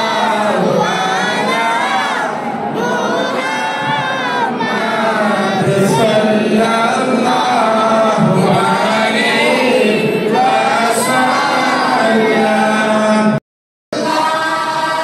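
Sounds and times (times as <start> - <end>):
group chanting in unison: 0.0 - 13.4, 14.0 - 15.0.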